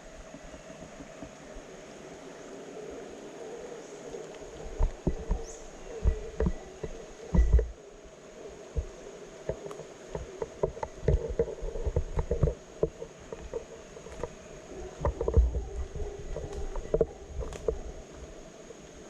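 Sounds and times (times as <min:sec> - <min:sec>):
insects droning: 0:00.0 - 0:19.0
low hum: 0:00.0 - 0:19.0.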